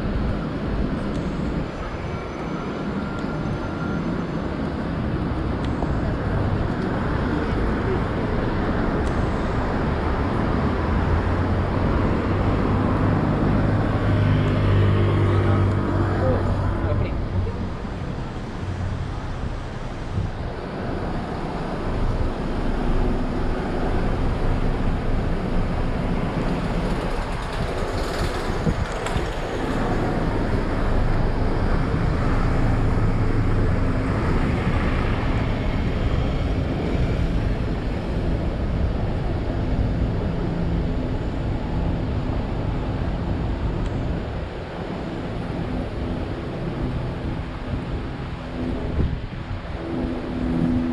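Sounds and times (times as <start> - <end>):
road traffic rumble: 0.0 - 50.9.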